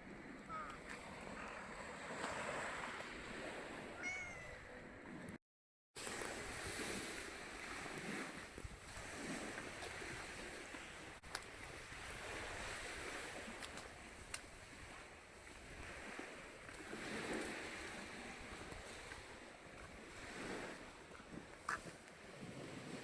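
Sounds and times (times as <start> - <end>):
sea waves washing on shore: 0.0 - 4.7, 6.0 - 23.0.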